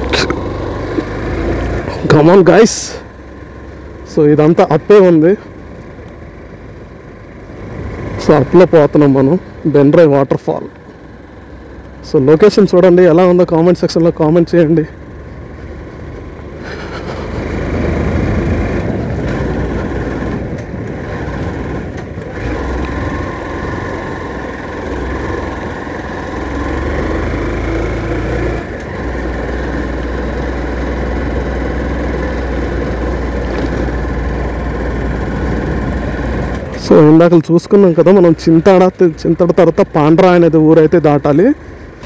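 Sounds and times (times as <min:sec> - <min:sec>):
motorcycle engine under load: 0:00.0 - 0:42.0
road and wind noise: 0:00.0 - 0:42.0.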